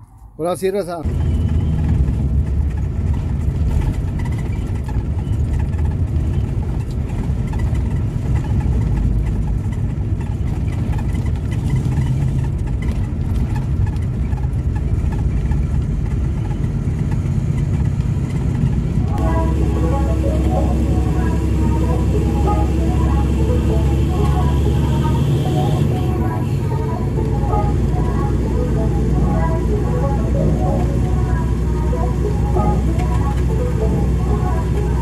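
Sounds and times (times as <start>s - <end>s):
truck diesel engine and road noise: 0.0s - 35.0s.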